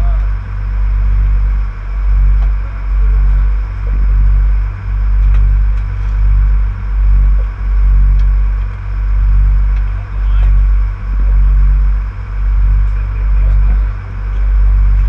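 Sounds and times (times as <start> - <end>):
boat engines rumbling: 0.0 - 15.0.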